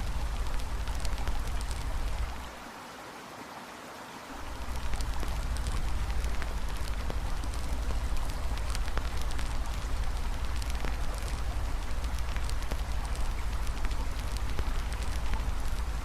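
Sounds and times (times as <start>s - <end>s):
low rumble: 0.0s - 2.5s, 4.4s - 16.0s
campfire crackling and popping: 0.0s - 2.6s, 4.4s - 16.0s.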